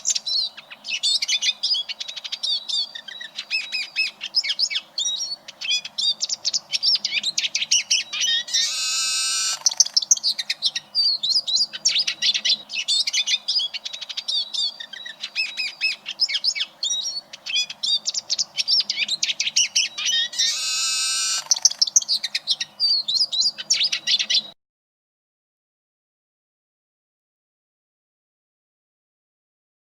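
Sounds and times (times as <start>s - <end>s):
bird twittering song: 0.0s - 24.6s.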